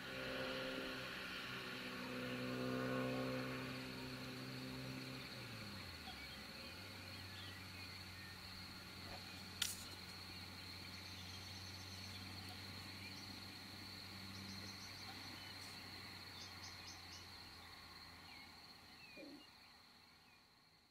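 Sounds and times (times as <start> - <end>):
low hum: 0.0 - 20.2
high-pitched insect trill: 0.1 - 19.9.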